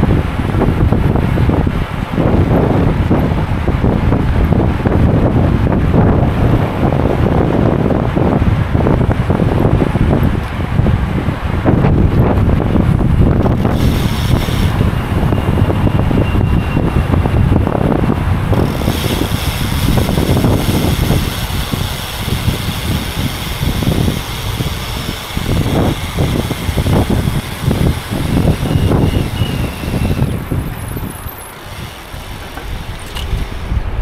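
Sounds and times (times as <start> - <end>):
tyres rushing on road: 0.0 - 34.0
wind buffeting microphone: 0.0 - 34.0.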